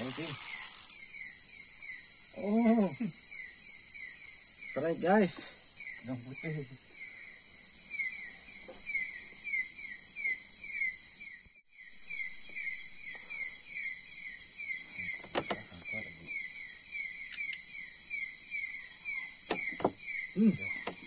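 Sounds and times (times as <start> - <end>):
insects buzzing at night: 0.0 - 21.0.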